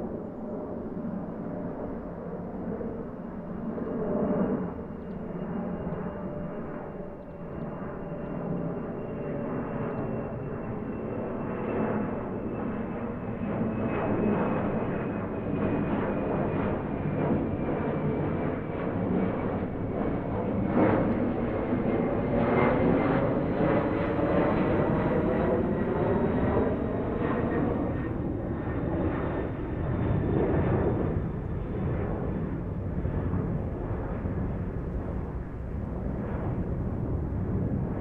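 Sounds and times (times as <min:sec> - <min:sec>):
propeller airplane flying over: 0:00.0 - 0:38.0.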